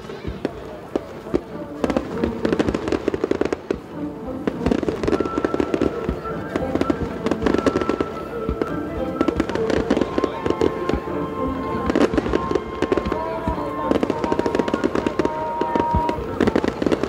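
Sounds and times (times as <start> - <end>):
fireworks bursting: 0.0 - 17.0
music with long held notes: 0.0 - 17.0.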